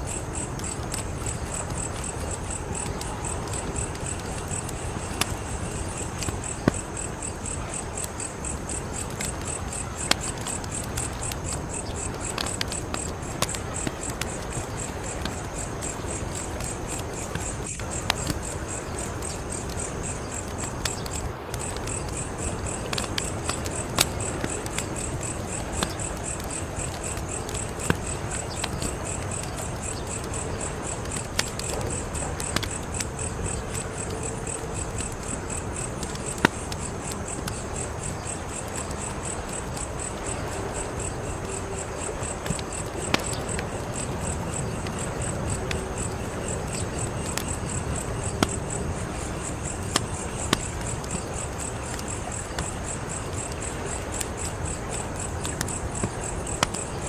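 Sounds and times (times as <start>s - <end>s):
crickets chirping: 0.0s - 57.0s
fire popping: 0.0s - 57.0s
wood fire crackling: 0.0s - 57.0s.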